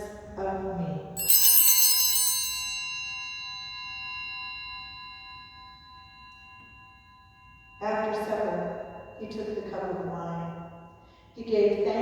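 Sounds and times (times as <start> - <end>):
altar bell ringing: 1.2 - 12.0.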